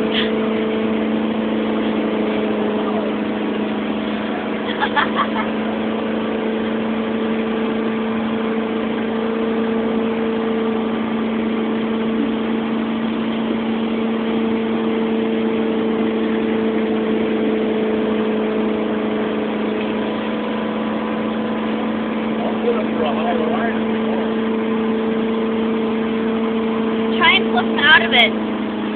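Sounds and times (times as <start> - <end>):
motorboat engine droning: 0.0 - 28.9
water rushing: 0.0 - 28.9.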